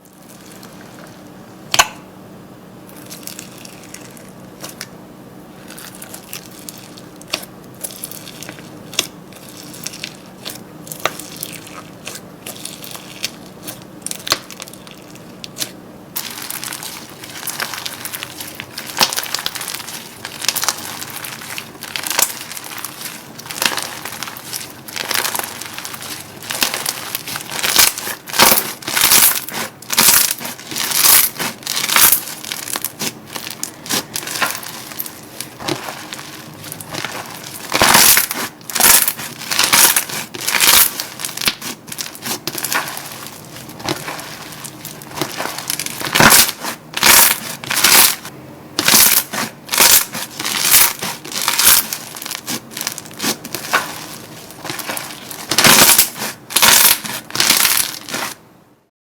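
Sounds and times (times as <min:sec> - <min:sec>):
slime squishing and crackling: 0:00.0 - 0:01.3, 0:02.9 - 0:04.9, 0:05.5 - 0:58.4.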